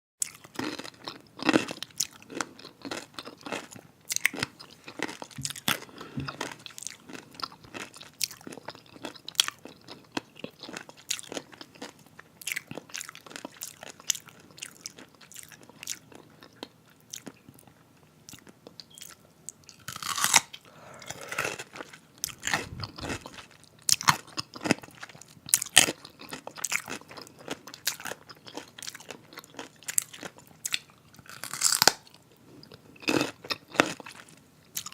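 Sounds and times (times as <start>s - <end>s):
crunchy pickle chewing: 0.2s - 34.9s.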